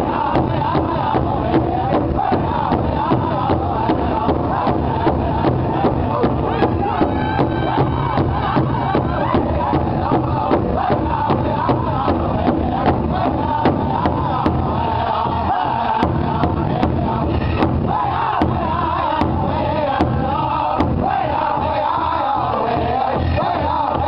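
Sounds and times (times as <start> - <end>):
group singing in wavering voices: 0.0 - 24.0
large hide drum beats: 0.0 - 24.0.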